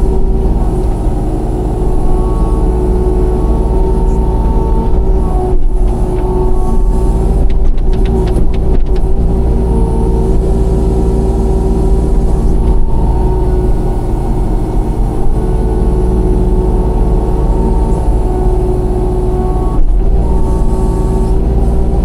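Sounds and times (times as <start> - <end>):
excavator engine running: 0.0 - 22.0
steady whine: 0.0 - 22.0.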